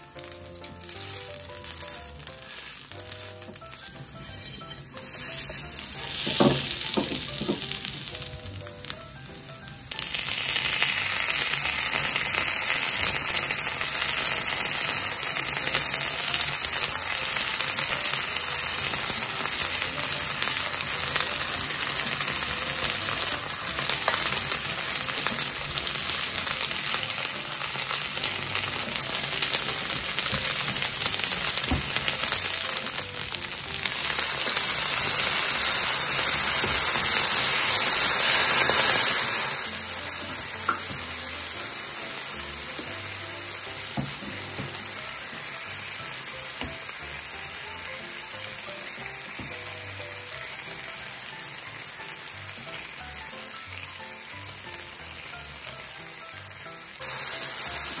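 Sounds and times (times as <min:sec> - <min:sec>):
food sizzling on griddle: 0:00.0 - 0:58.0.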